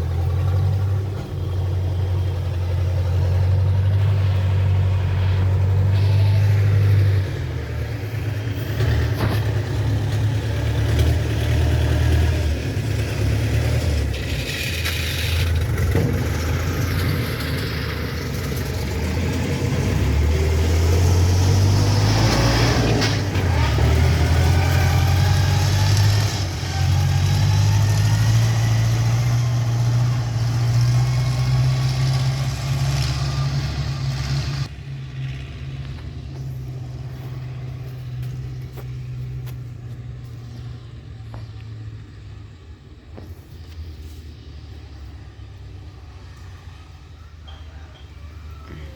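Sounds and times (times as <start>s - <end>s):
road noise: 0.0s - 48.9s
vehicle engine revving: 0.0s - 48.9s.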